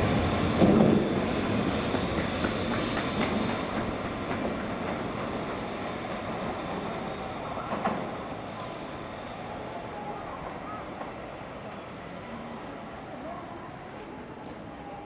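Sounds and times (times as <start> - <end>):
train wheel-on-rail noise: 0.0 - 15.0.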